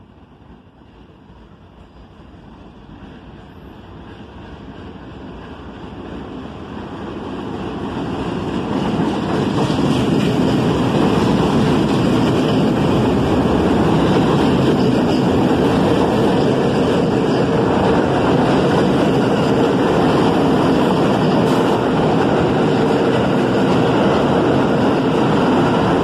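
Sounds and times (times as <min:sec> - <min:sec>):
subway train wheels rumbling on rails: 0:00.0 - 0:26.0.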